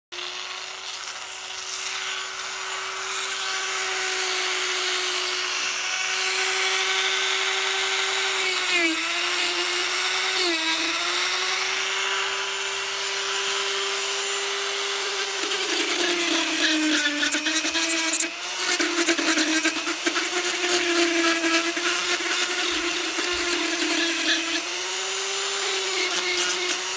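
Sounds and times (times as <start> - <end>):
rotary tool motor whine: 0.2 - 26.9.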